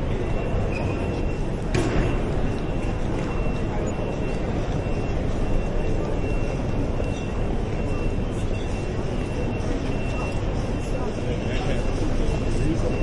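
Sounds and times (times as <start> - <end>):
indistinct crowd voices: 0.0 - 13.0
low rumble of trains: 0.0 - 13.0.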